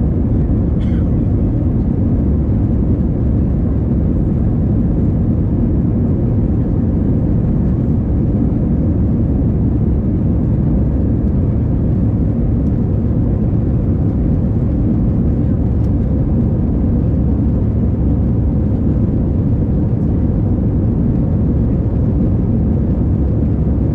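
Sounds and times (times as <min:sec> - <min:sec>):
airliner cabin engine rumble: 0:00.0 - 0:23.9.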